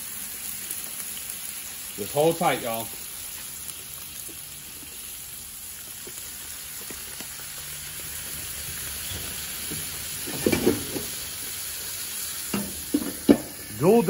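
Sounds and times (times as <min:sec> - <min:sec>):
water sizzling on hot griddle: 0:00.0 - 0:14.0.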